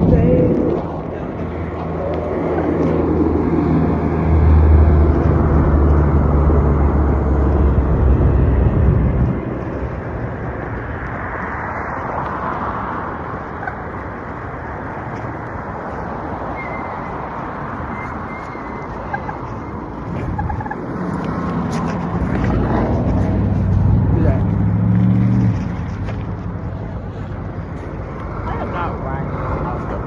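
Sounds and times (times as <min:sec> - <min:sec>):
vehicle engine humming: 0:00.0 - 0:30.0
wind and road noise: 0:00.0 - 0:30.0.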